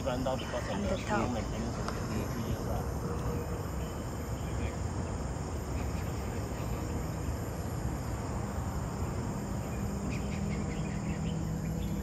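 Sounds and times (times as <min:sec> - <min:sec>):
insects: 0:00.0 - 0:12.0
low steady hum: 0:00.0 - 0:12.0.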